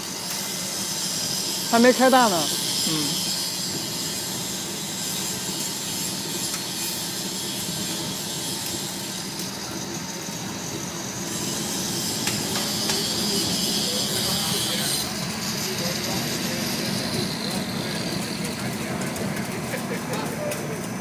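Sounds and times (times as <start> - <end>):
burner blower and flame rushing: 0.0 - 21.0.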